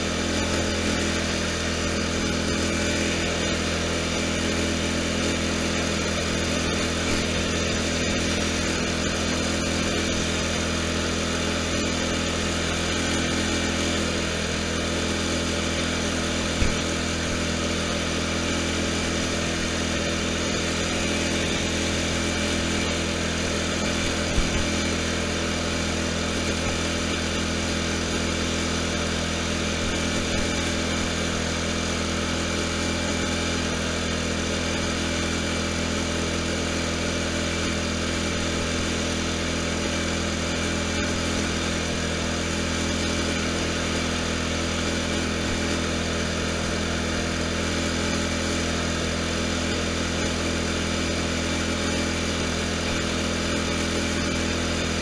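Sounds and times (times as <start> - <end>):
small tractor engine running: 0.0 - 55.0.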